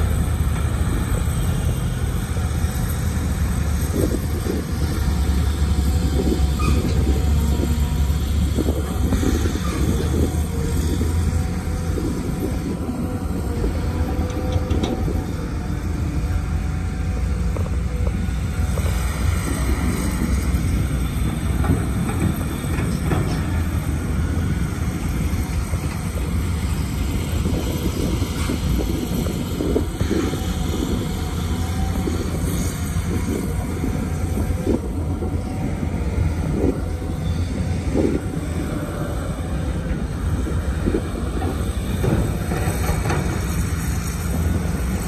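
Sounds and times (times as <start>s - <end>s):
excavator diesel engine rumbling: 0.0s - 45.0s.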